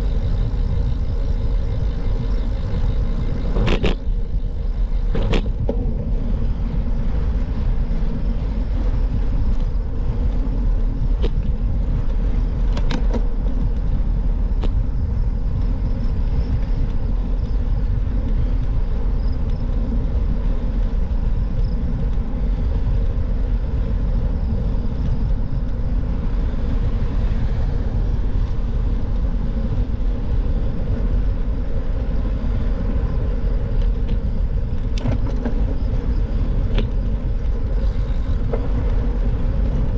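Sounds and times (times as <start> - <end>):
bicycle tyre road noise: 0.0 - 39.9
wind rumble: 0.0 - 39.9.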